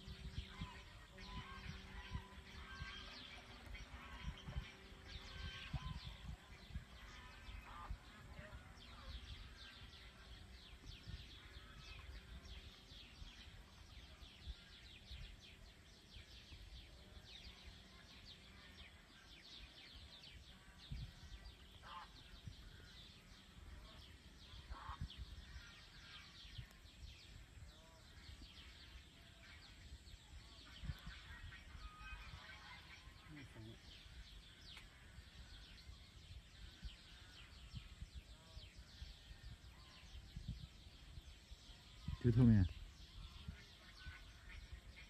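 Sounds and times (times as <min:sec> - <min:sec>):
small birds chirping: 0:00.0 - 0:45.0
wind rumble on microphone: 0:00.0 - 0:45.0.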